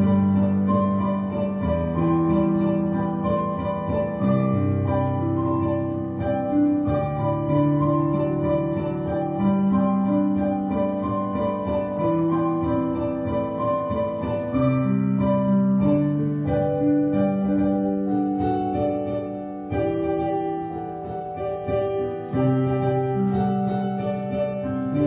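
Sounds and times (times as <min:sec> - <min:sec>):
slow piano-like keyboard chords: 0:00.0 - 0:25.0.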